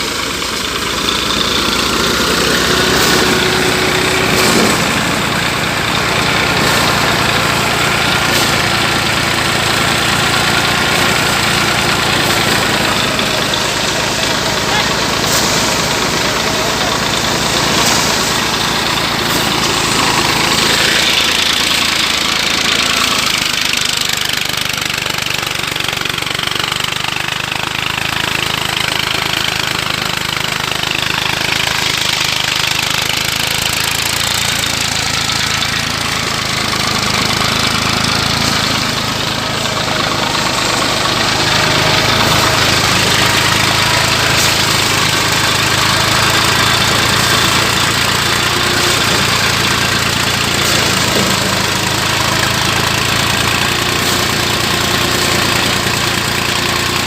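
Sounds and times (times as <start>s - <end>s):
thresher engine drone: 0.0s - 57.0s.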